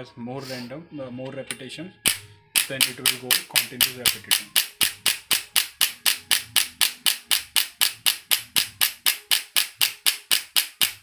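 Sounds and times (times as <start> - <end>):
adjusting gun rapid clicks: 2.1 - 11.0.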